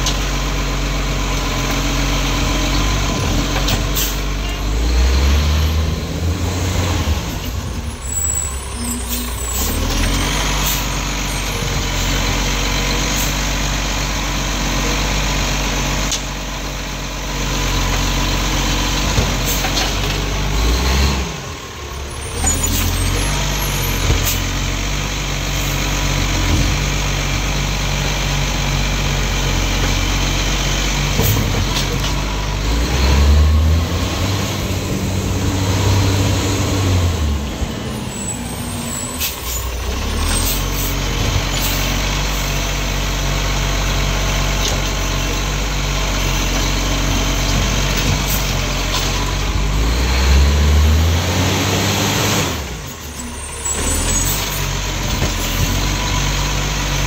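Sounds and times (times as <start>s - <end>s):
diesel truck engine growling: 0.0s - 57.0s.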